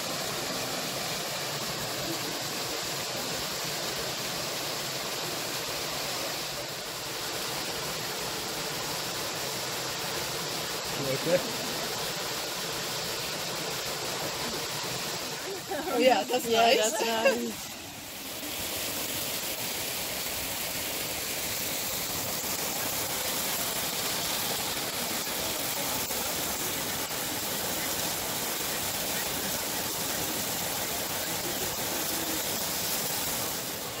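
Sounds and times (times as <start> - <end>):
water splashing over rock ledge: 0.0 - 34.0.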